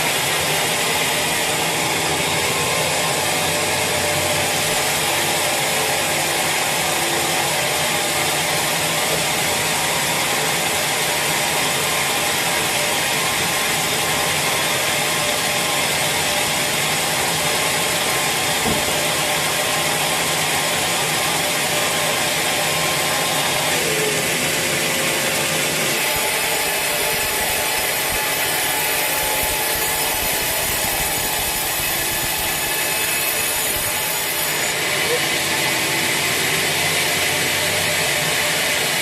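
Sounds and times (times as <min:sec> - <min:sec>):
sawmill saw cutting log: 0:00.0 - 0:39.0.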